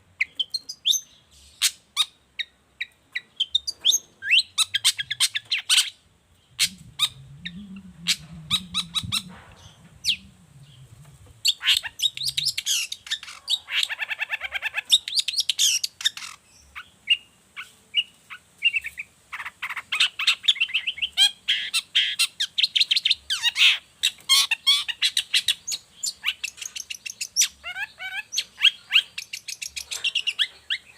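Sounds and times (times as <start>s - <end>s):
bird singing chattering trills: 0.2s - 30.9s.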